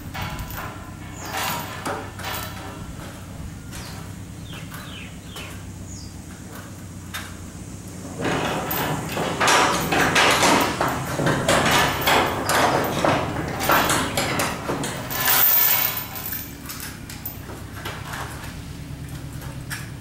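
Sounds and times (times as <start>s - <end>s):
metal rigging clanking on steel beam: 0.0s - 5.7s, 8.0s - 20.0s.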